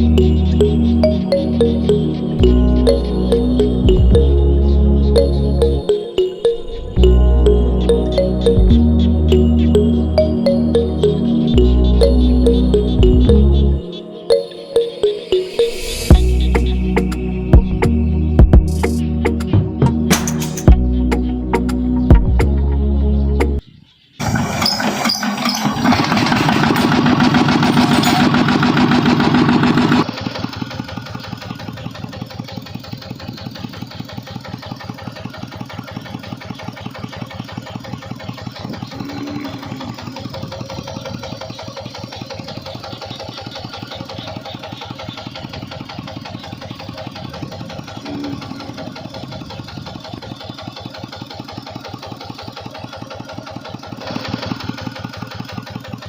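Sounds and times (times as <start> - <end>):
small engine running: 0.0 - 14.2, 24.2 - 56.0.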